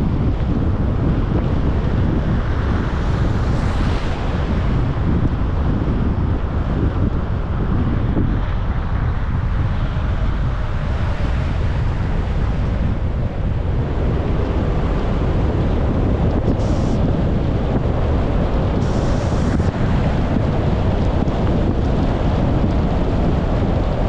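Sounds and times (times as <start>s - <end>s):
car road noise rumble: 0.0s - 24.0s
wind buffeting microphone: 0.0s - 24.0s.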